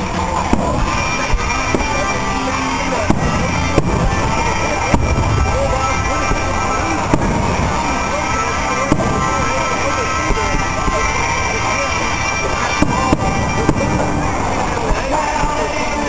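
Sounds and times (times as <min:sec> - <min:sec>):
fireworks bursting: 0:00.0 - 0:16.0
music: 0:00.0 - 0:16.0.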